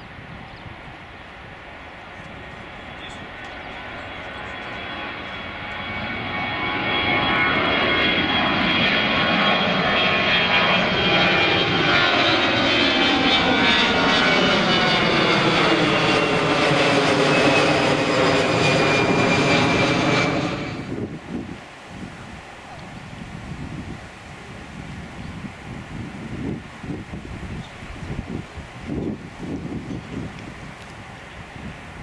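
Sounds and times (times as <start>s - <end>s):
high jet engine whine: 0.0s - 32.0s
jet airliner passing overhead: 0.0s - 32.0s.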